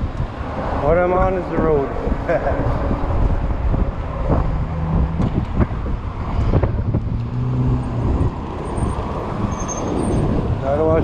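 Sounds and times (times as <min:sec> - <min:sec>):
car traffic passing: 0:00.0 - 0:11.0
vehicle engine hum: 0:00.0 - 0:11.0
wind rumbling on microphone: 0:00.0 - 0:11.0.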